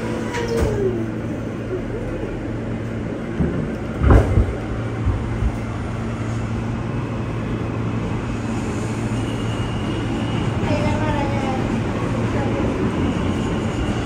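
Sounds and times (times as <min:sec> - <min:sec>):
subway car rumbling: 0:00.0 - 0:14.0.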